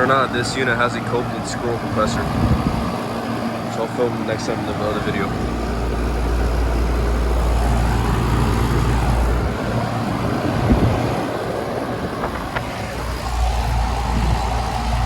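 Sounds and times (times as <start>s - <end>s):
compressor low hum: 0.0s - 15.0s
condenser fan air rush: 0.0s - 15.0s.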